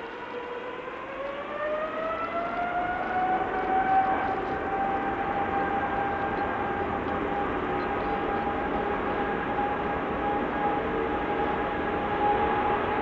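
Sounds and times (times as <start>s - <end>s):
jet engine high whine: 0.0s - 13.0s.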